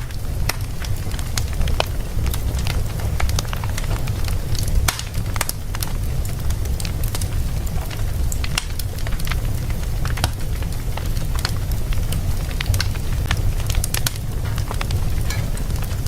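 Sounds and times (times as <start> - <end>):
fire crackles and pops: 0.0 - 16.0
low rumble of flames: 0.0 - 16.0.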